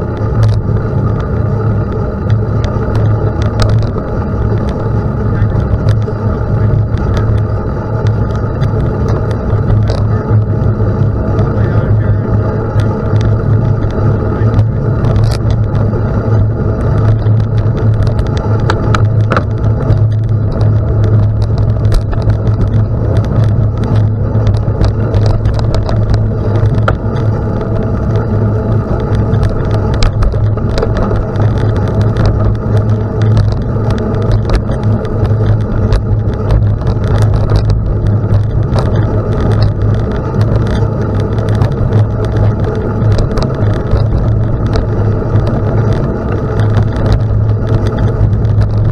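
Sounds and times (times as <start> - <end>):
bike tyres humming: 0.0 - 48.9
small ticks and crackles: 0.0 - 48.9.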